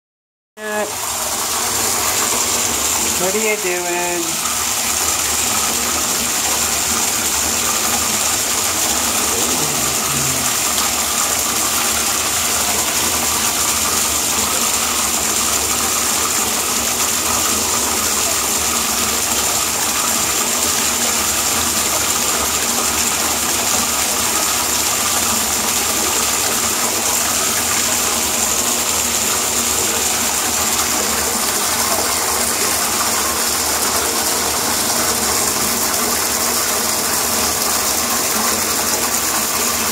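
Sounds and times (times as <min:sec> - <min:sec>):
water gushing into bathtub: 0:00.6 - 0:39.9.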